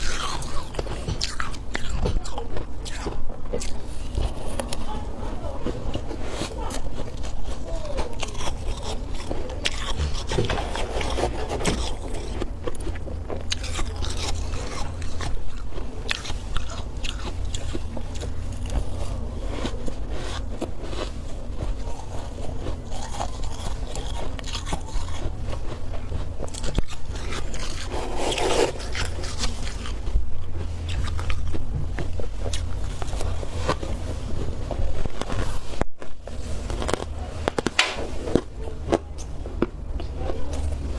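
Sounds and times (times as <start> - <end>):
frost crunching: 0.0 - 40.9
steady low hum: 0.0 - 40.9.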